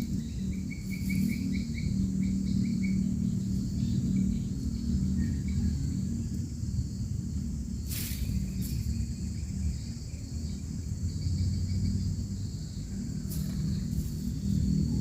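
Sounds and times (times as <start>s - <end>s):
high insect drone: 0.0s - 15.0s
low rumble: 0.0s - 15.0s.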